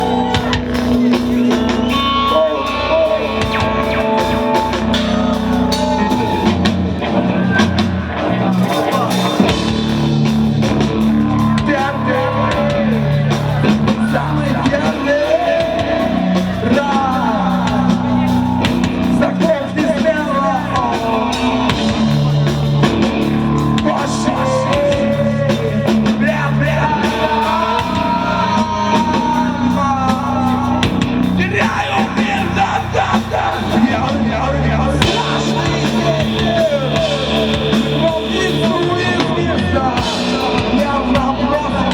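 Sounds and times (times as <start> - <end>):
person singing: 0.0 - 9.8, 11.3 - 41.9
bass and drums: 0.0 - 41.9
electric guitars: 0.0 - 41.9
rock band playing live: 0.0 - 41.9.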